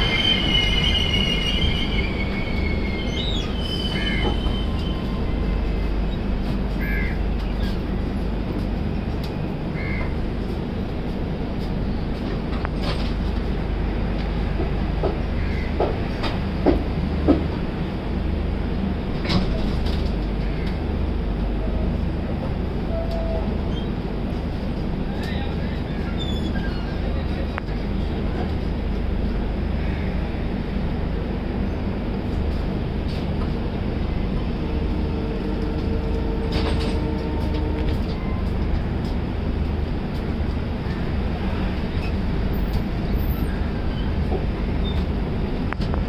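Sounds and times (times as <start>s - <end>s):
train coach rolling rumble: 0.0s - 46.0s.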